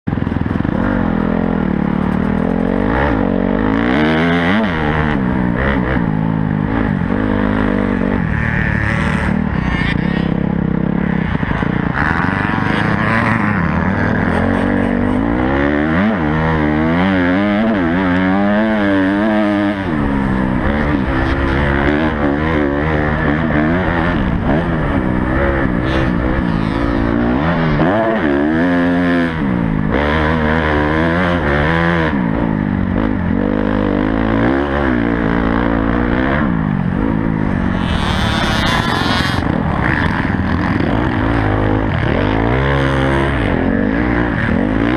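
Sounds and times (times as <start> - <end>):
motocross bike engine revving: 0.1 - 44.9.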